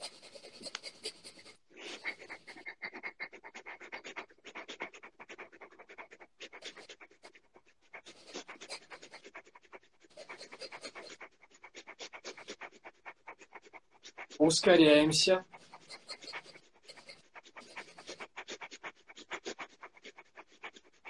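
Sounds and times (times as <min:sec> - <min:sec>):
rapid breathing through nose: 0:00.0 - 0:21.0.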